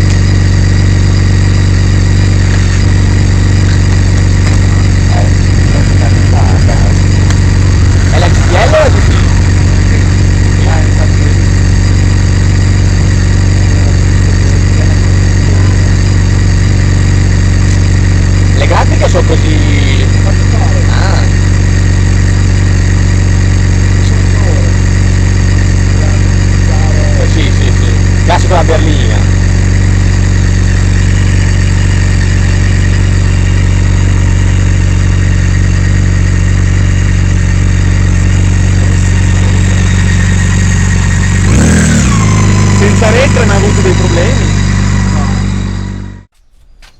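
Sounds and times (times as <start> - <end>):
motorcycle engine idling: 0.0 - 46.4.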